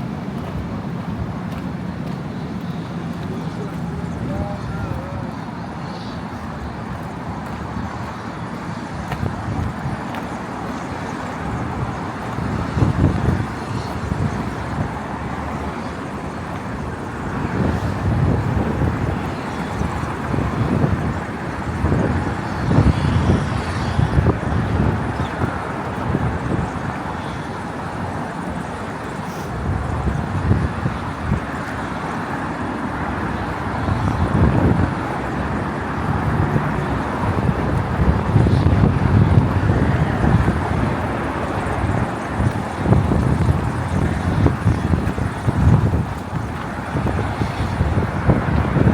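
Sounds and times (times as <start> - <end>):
traffic noise: 0.0 - 48.9.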